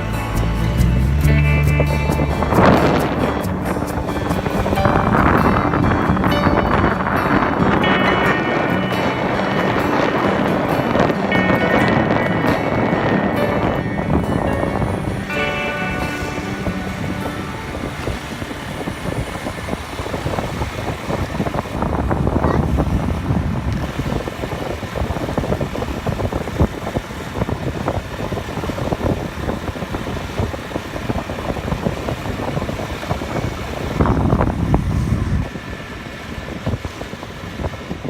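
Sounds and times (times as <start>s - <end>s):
motorbike engine rumble: 0.0s - 38.0s
passing vehicles: 0.0s - 38.0s
tyre road noise: 0.0s - 38.0s.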